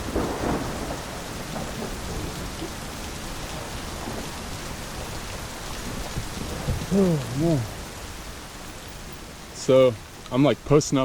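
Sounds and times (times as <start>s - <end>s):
low rumbling: 0.0s - 10.3s
heavy rain pouring: 0.0s - 11.0s.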